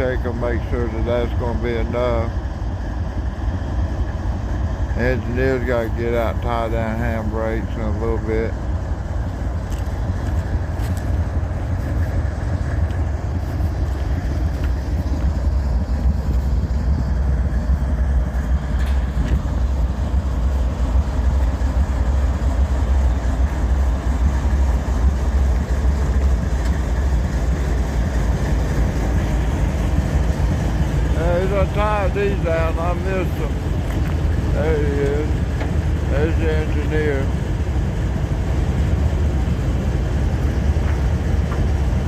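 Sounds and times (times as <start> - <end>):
diesel locomotive idling: 0.0 - 42.0.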